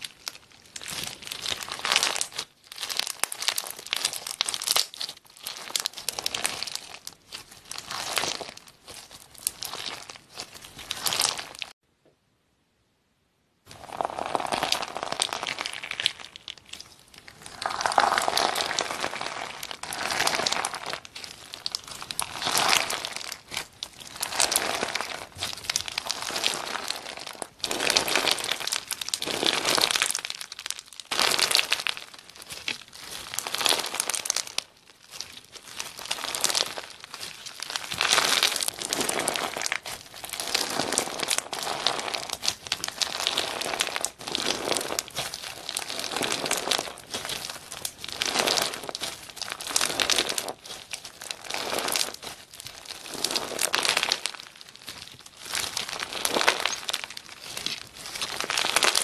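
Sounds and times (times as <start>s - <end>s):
hands squeezing crunchy slime: 0.0s - 11.8s, 13.7s - 59.0s.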